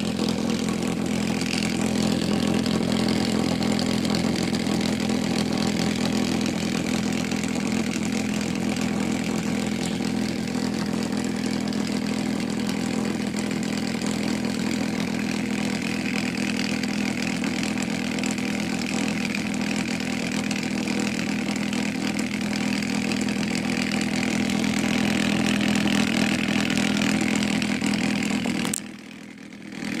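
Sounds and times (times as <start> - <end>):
electric motor humming: 0.0 - 30.0.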